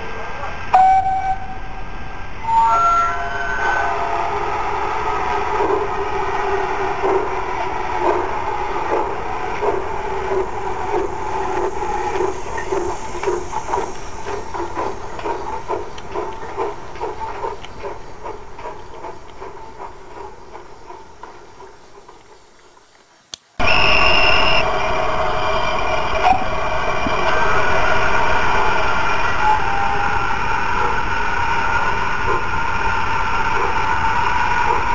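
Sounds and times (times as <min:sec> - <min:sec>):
model train running on track: 0:00.0 - 0:23.0, 0:23.6 - 0:34.9
model locomotive setting off: 0:02.4 - 0:22.8, 0:23.6 - 0:34.9.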